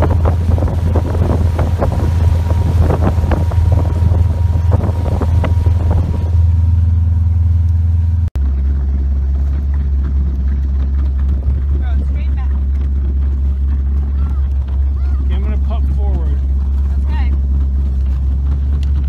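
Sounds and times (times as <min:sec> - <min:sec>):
wind buffeting microphone: 0:00.0 - 0:06.9, 0:08.4 - 0:19.0
motorboat engine droning: 0:00.0 - 0:19.0.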